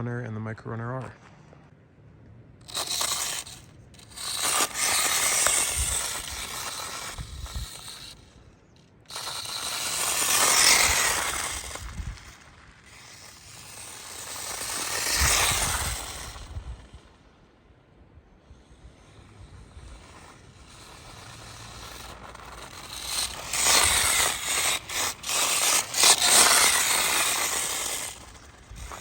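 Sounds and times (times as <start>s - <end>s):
small toy truck drivetrain: 2.6s - 29.0s.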